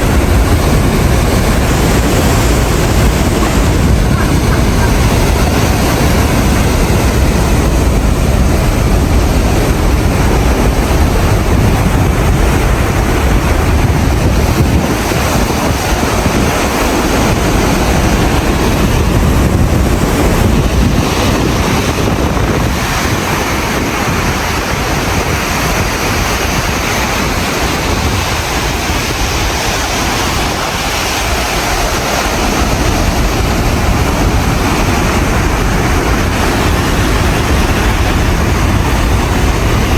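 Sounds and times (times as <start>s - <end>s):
rough seas breaking: 0.0s - 39.9s
wind buffeting microphone: 0.0s - 39.9s.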